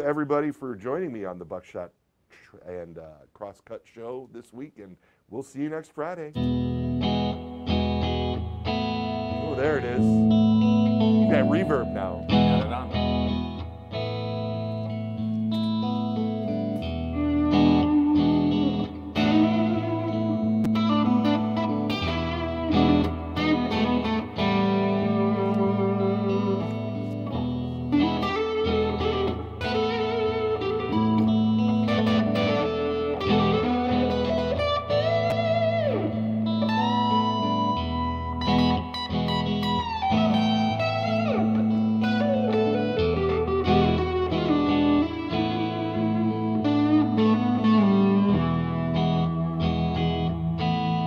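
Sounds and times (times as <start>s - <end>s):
electric guitar with reverb: 6.3s - 51.0s.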